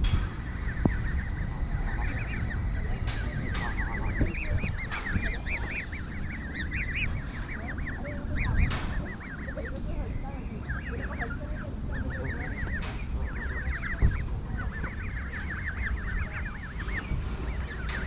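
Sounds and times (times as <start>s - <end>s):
adult geese harsh calls: 0.0s - 18.0s
goslings peeping: 0.0s - 18.0s
wind rumble on microphone: 0.0s - 18.0s.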